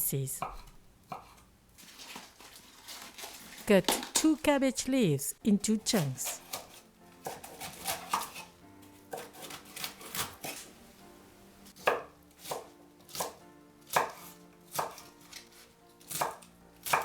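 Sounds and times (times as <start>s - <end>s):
knife chopping cabbage: 0.4s - 4.3s, 5.8s - 10.8s, 11.7s - 17.0s.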